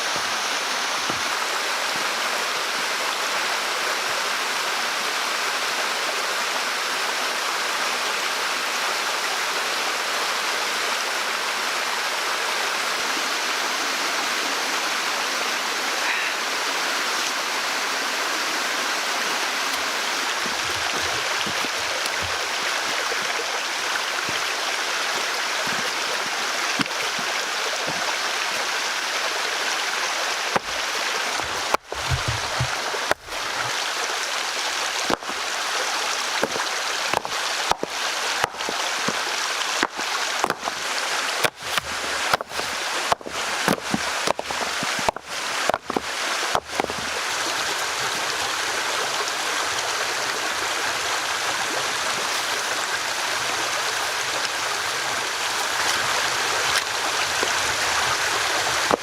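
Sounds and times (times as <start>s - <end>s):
flowing stream: 0.0s - 59.0s.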